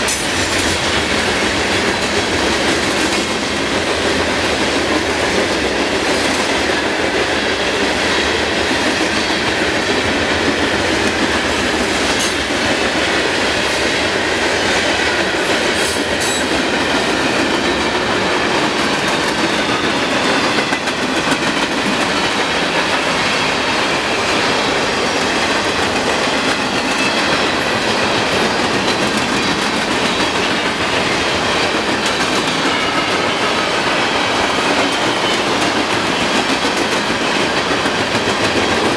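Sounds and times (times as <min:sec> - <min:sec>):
freight train wheels rumbling: 0:00.0 - 0:38.9
wheels clattering over rail joints: 0:00.0 - 0:38.9.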